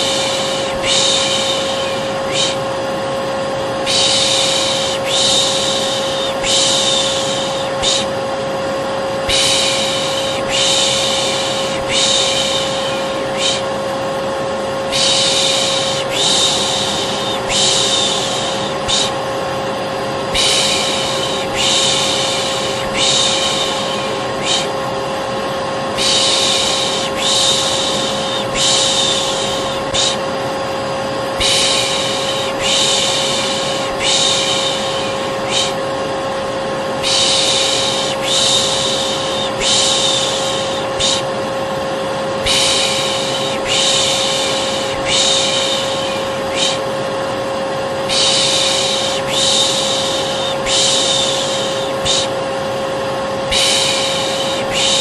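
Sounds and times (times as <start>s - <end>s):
person shushing: 0.0s - 2.8s, 3.8s - 8.2s, 9.2s - 14.0s, 14.8s - 19.2s, 20.3s - 24.8s, 25.9s - 30.3s, 31.4s - 35.9s, 37.0s - 41.4s, 42.4s - 47.0s, 48.0s - 52.4s, 53.5s - 55.0s
vacuum cleaner running: 0.0s - 55.0s.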